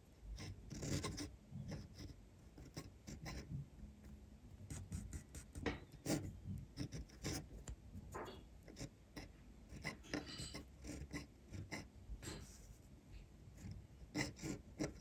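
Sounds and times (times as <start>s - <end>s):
pen nib scratching on paper: 0.2s - 12.8s, 13.5s - 15.0s.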